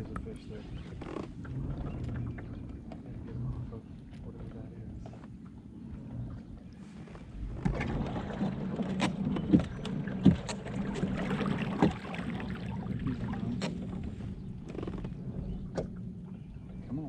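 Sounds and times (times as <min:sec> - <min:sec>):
low steady hum: 0:00.0 - 0:17.0
water splashing along hull: 0:00.0 - 0:17.0.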